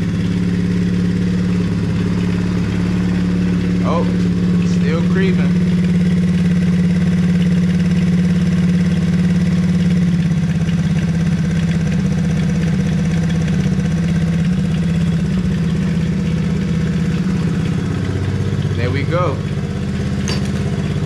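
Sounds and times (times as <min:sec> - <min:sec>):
atv engine idling fast: 0:00.0 - 0:21.0.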